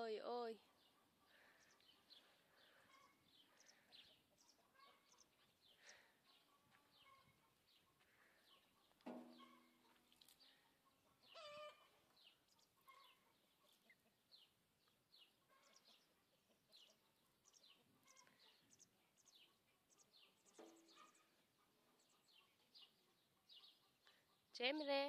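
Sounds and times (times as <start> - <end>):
faint bird chirping: 0.0 - 25.0.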